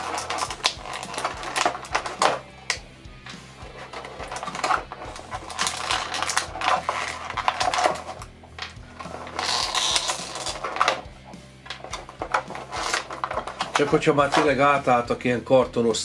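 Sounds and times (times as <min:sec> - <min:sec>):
plastic packaging crinkling: 0:00.0 - 0:02.5, 0:03.7 - 0:14.6.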